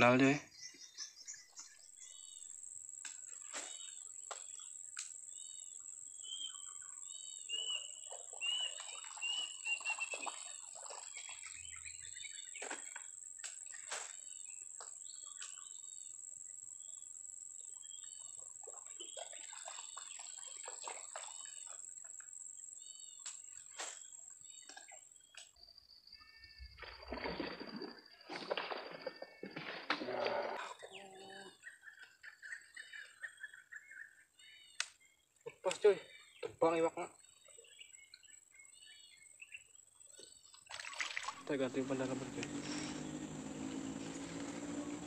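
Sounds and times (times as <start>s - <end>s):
birds chirping: 0.0s - 25.6s, 29.0s - 40.7s, 41.4s - 45.0s.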